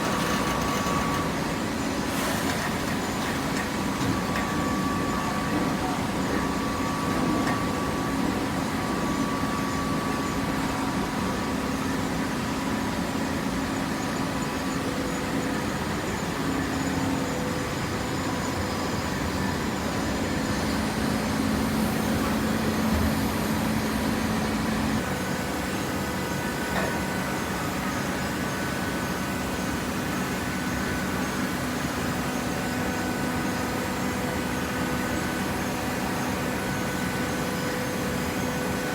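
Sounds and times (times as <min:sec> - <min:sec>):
baling press machine hum: 0:00.0 - 0:38.9.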